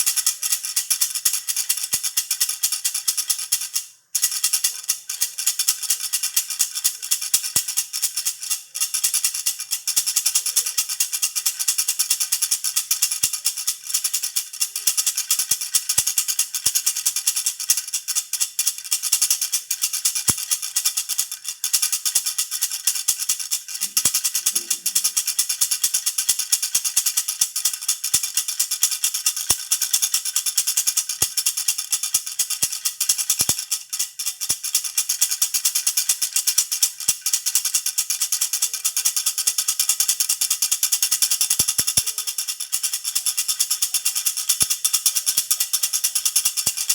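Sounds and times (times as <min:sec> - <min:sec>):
baby rattle shaking: 0:00.0 - 0:46.9.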